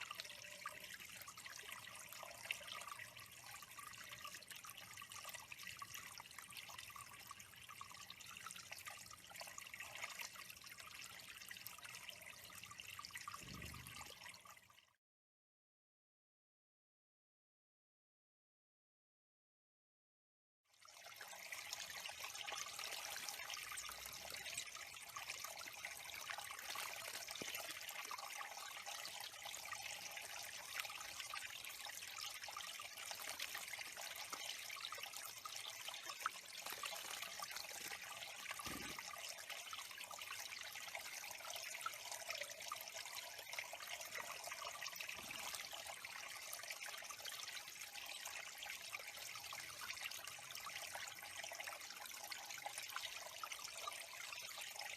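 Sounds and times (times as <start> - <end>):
water trickling: 0.0 - 15.0, 20.7 - 54.9.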